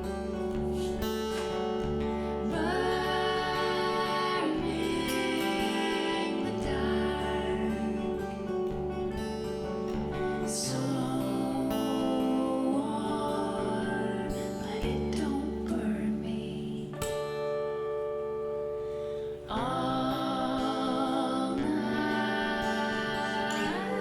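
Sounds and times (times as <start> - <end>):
person singing: 0.0 - 8.9, 10.1 - 17.4, 19.5 - 24.0
acoustic guitar: 0.0 - 24.0.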